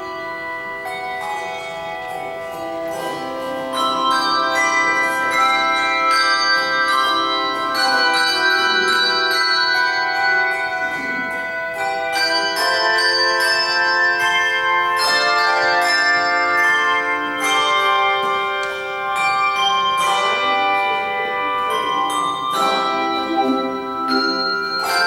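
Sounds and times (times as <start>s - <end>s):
handbell choir playing: 0.0s - 25.0s.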